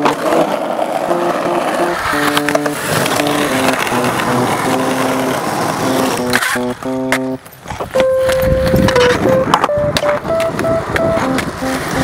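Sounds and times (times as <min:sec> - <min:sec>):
skateboard grinding on curb: 0:00.0 - 0:12.0
background music with melody: 0:01.0 - 0:12.0.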